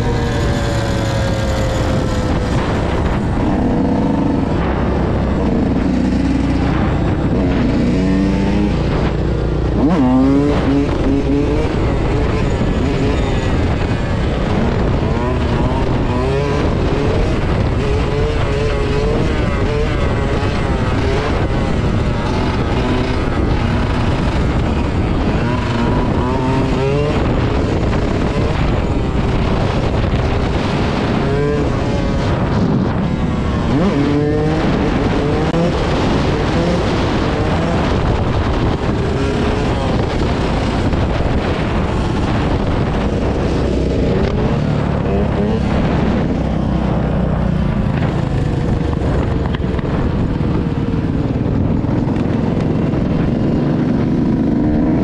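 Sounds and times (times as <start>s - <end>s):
two-stroke dirt bike revving: 0.0s - 55.0s.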